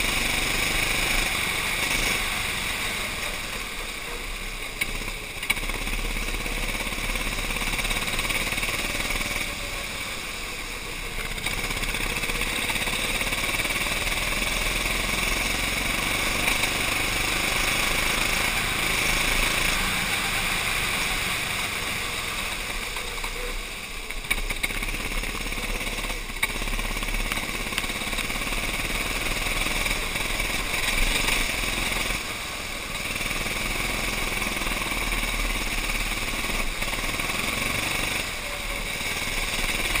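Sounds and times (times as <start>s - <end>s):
kart engine running hard: 0.0s - 40.0s.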